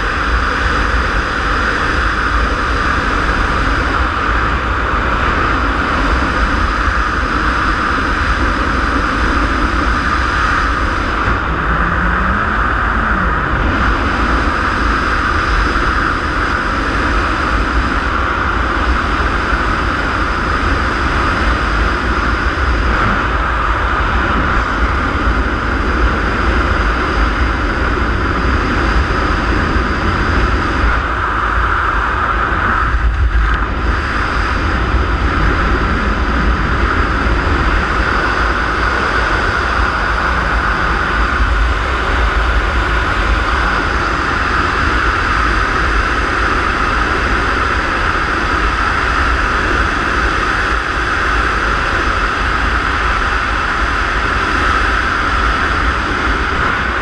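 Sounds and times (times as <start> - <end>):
deep fluttering rumble: 0.0 - 57.0
wind buffeting microphone: 0.0 - 57.0.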